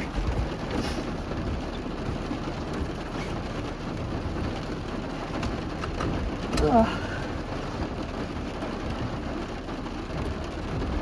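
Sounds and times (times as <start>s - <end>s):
low rumble: 0.0s - 9.4s
rain falling on a car: 0.0s - 11.0s.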